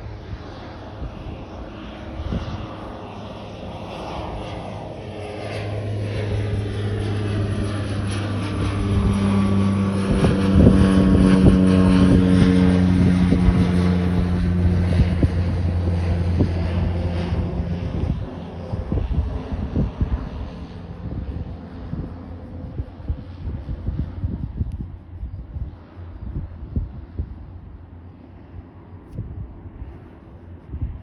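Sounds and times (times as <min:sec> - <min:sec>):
turboprop engine droning: 0:00.0 - 0:31.0.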